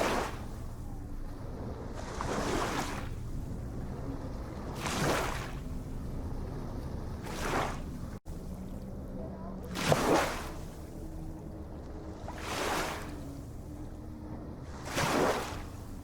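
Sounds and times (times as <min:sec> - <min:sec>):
low rumble of surf: 0:00.0 - 0:16.0
ocean waves washing onto beach: 0:00.0 - 0:16.0.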